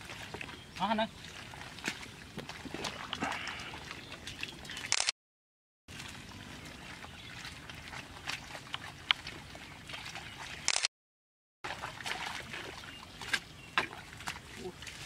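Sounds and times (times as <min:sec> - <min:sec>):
shallow water sloshing: 0:00.0 - 0:04.9, 0:05.9 - 0:10.7, 0:11.6 - 0:15.0
small splashes and clicks: 0:00.0 - 0:05.1, 0:05.9 - 0:10.9, 0:11.7 - 0:15.0.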